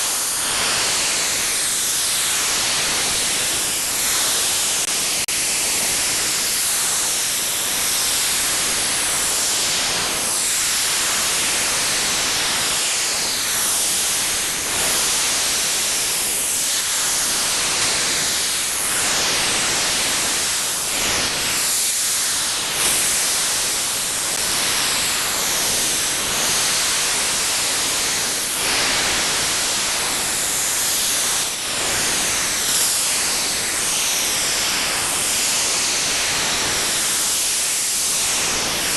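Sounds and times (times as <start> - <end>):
loud steady radio hiss: 0.0 - 38.9.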